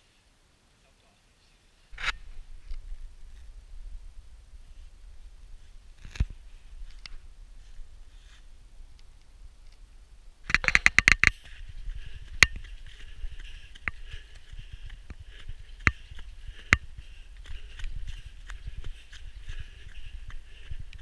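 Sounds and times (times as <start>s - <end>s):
leaves rustling: 0.0s - 21.0s
footsteps on leafy trail: 1.9s - 21.0s.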